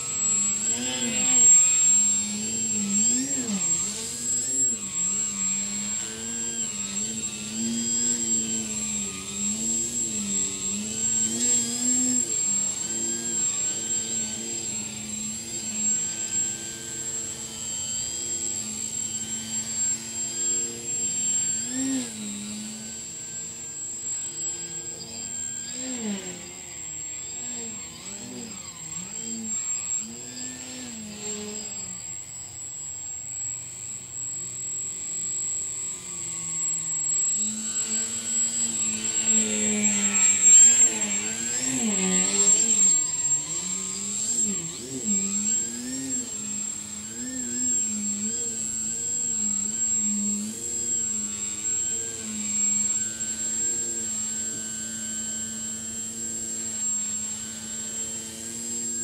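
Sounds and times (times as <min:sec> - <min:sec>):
model airplane electric motor: 0:00.0 - 0:59.0.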